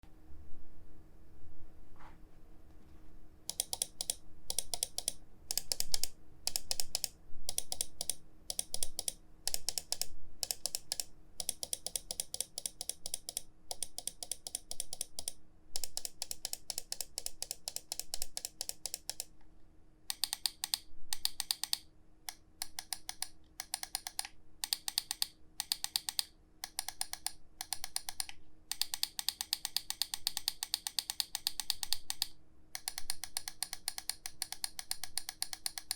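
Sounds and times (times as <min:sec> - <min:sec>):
faint steady hum: 0:00.0 - 0:35.9
mouse buttons clicking: 0:03.5 - 0:19.3, 0:20.1 - 0:35.9.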